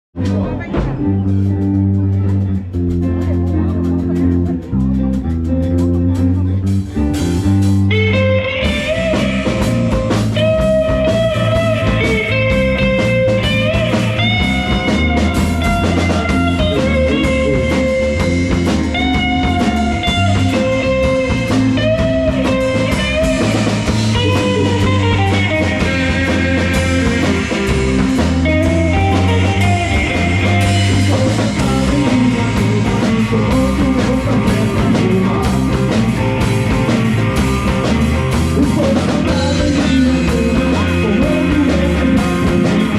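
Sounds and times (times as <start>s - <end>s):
rock band playing: 0.1s - 42.9s
electric guitar lead lines: 0.2s - 42.9s.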